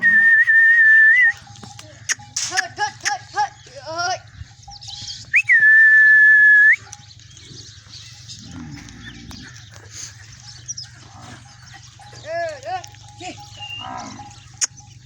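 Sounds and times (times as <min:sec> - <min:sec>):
farmyard sounds: 0:00.0 - 0:15.0.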